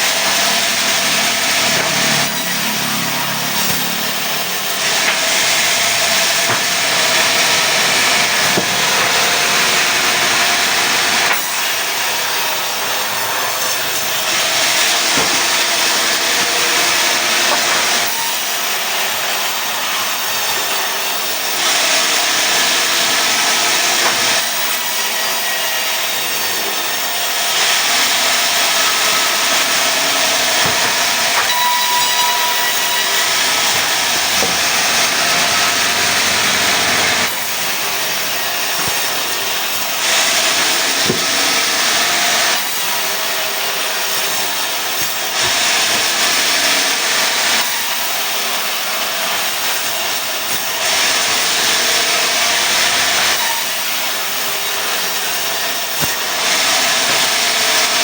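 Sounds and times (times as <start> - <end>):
saw blade cutting wood: 0.0 - 43.0, 50.6 - 58.0
sawmill machine running: 0.0 - 58.0.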